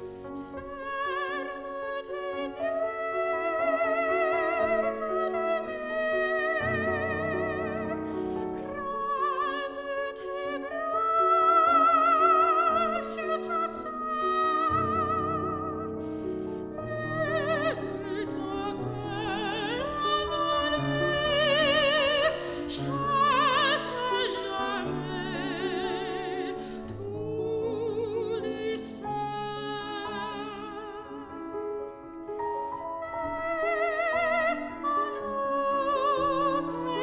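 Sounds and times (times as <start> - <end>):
piano accompaniment: 0.0 - 37.0
soprano singing: 0.0 - 37.0.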